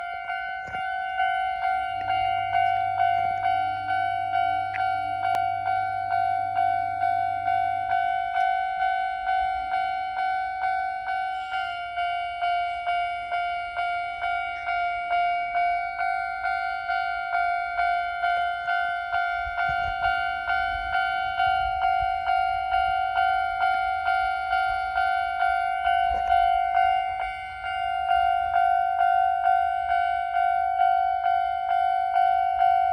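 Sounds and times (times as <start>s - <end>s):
level-crossing alarm bell ringing: 0.0s - 32.9s.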